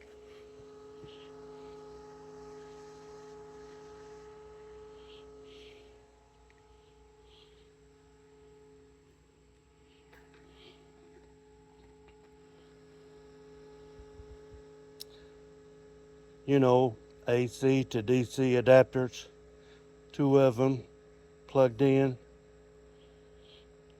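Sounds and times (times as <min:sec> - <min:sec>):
computer fans humming: 0:00.0 - 0:23.9.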